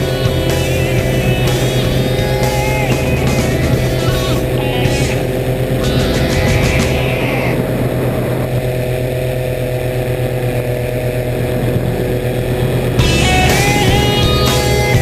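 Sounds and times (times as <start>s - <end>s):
engine and propeller droning: 0.0s - 15.0s.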